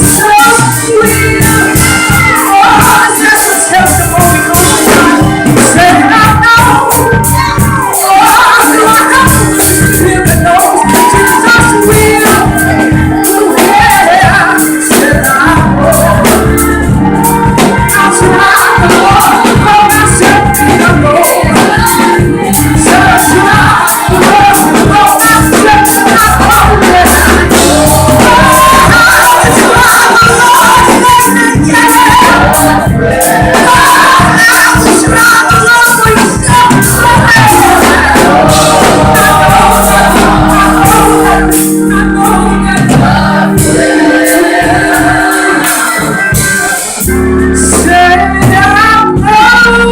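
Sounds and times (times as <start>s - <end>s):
band with bass and drums: 0.0s - 49.9s
choir singing in harmony: 0.0s - 49.9s.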